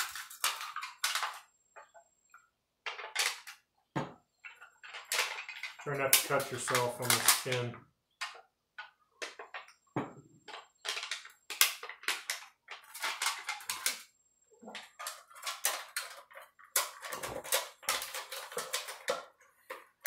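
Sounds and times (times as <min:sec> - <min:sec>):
metal strips crinkling and clicking: 0:00.0 - 0:02.0, 0:04.4 - 0:09.8, 0:10.5 - 0:20.0.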